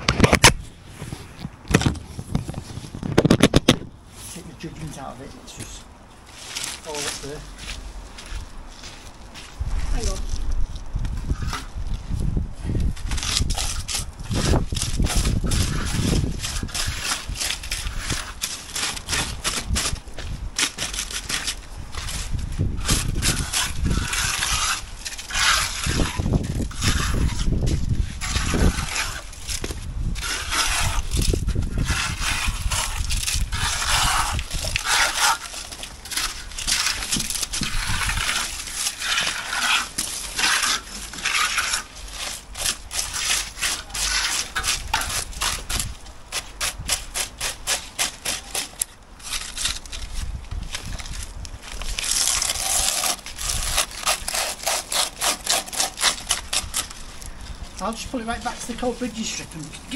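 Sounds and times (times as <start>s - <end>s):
trowel scraping wet concrete: 4.2s - 7.8s, 13.0s - 20.0s, 20.6s - 59.9s.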